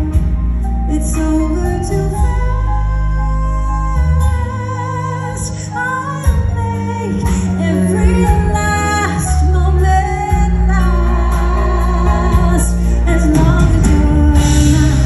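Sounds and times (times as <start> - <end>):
live band playing: 0.0 - 15.0
woman singing a ballad: 0.0 - 15.0.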